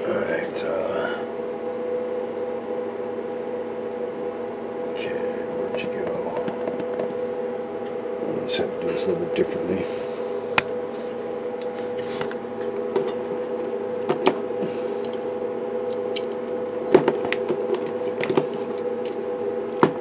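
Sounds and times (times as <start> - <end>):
multi-pitched hum: 0.0 - 20.0.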